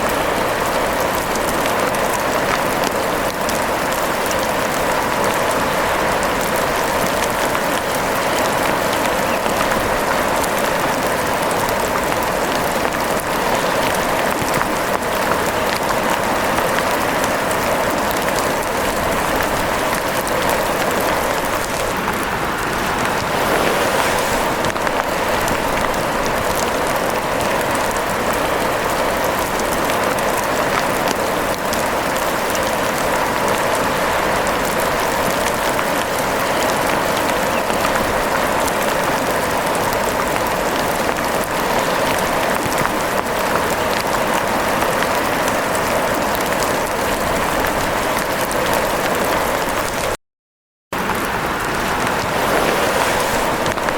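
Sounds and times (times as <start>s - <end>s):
steady rain: 0.0s - 50.2s, 51.0s - 53.9s.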